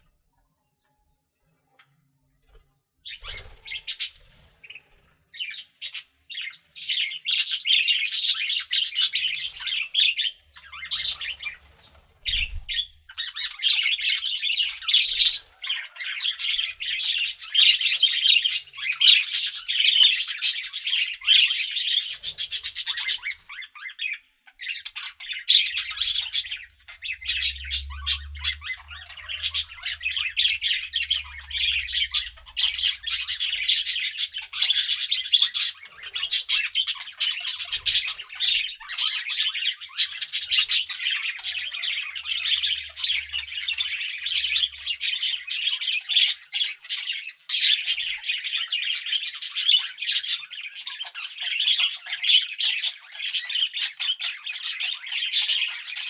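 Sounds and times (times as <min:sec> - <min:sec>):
budgerigars chattering and chirping: 0:03.0 - 0:56.0.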